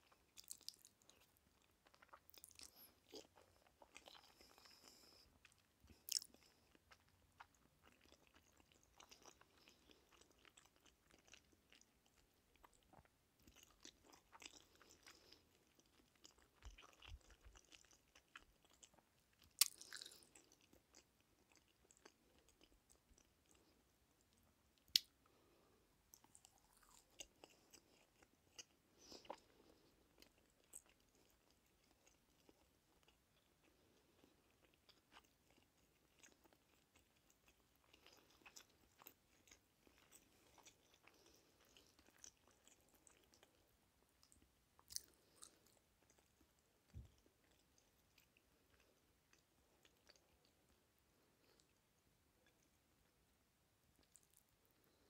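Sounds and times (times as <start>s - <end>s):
person chewing food: 0.0s - 53.2s, 53.8s - 55.0s.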